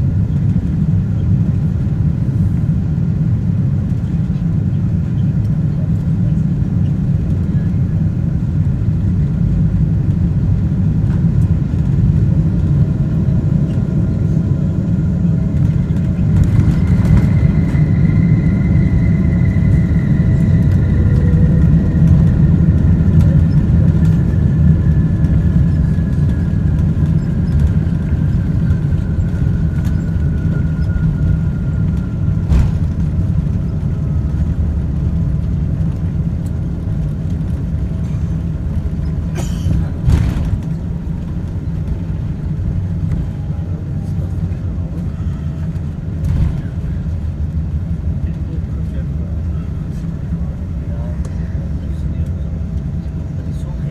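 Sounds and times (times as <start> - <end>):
airliner cabin rumble: 0.0 - 53.9
falling engine whine: 0.0 - 53.9.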